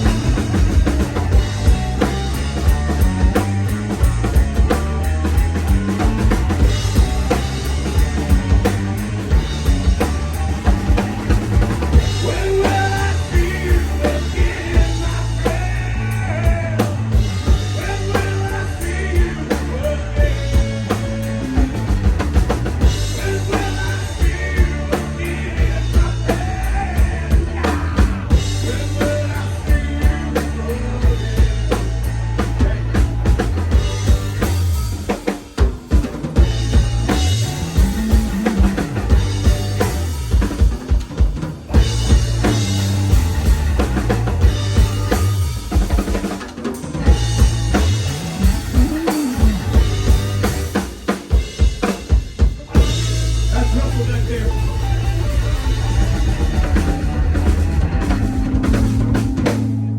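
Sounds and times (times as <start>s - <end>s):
bass drum: 0.0s - 46.4s, 47.0s - 59.9s
drum kit beat: 0.0s - 59.9s
rock song: 0.0s - 59.9s.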